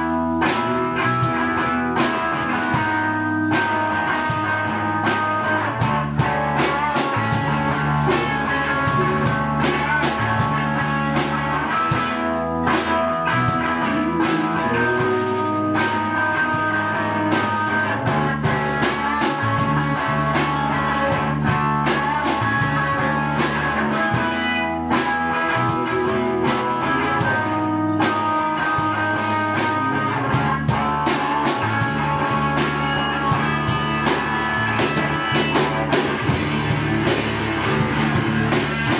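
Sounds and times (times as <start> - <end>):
drum kit beat: 0.0 - 38.9
electric guitars: 0.0 - 38.9.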